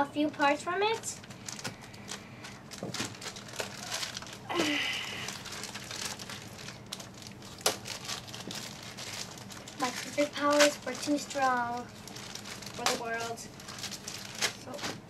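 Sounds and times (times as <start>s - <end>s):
plastic packaging crinkling: 0.3s - 15.0s
scissors cutting plastic: 1.5s - 15.0s.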